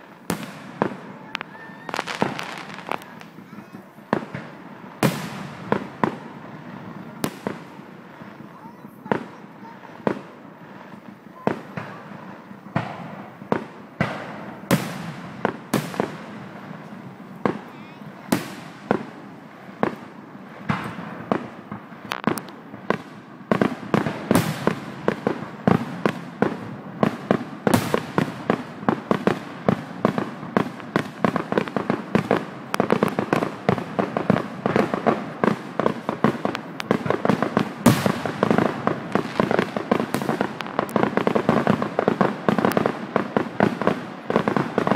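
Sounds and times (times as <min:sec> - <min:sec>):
fireworks bursting: 0:00.0 - 0:44.9
fireworks crackles: 0:00.0 - 0:44.9.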